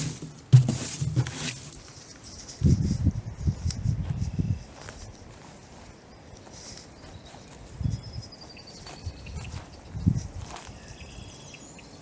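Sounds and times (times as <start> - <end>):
footsteps on grass and leaves: 0.0 - 11.3
birds chirping faintly: 1.9 - 12.0.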